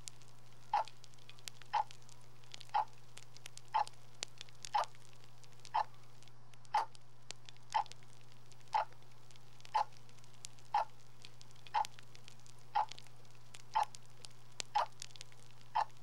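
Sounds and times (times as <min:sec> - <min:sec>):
constant low hum: 0:00.0 - 0:16.0
faint scattered crackle: 0:00.0 - 0:16.0
soft steady ticking: 0:00.0 - 0:16.0.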